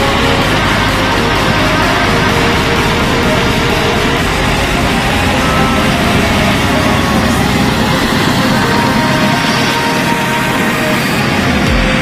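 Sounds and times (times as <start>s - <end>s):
loud background music: 0.0s - 12.0s.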